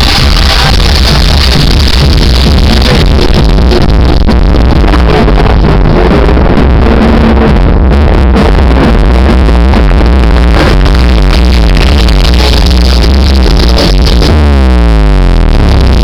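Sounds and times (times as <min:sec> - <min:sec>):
electronic dance music: 0:00.0 - 0:16.0
heavy bass: 0:00.0 - 0:16.0.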